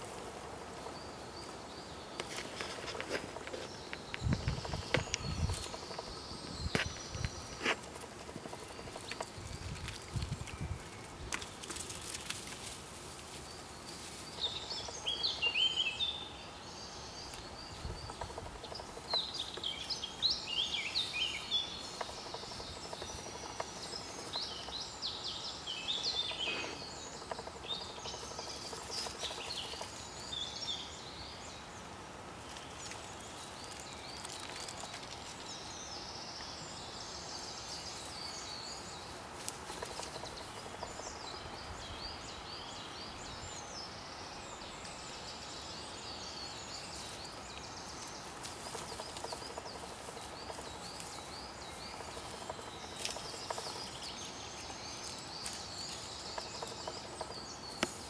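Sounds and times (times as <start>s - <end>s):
songbirds singing: 0.0s - 58.0s
steady outdoor hiss: 0.0s - 58.0s.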